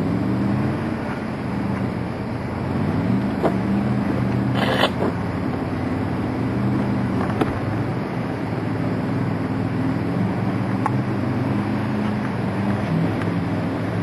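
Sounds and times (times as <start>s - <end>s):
truck engine running at low revs: 0.0s - 14.0s.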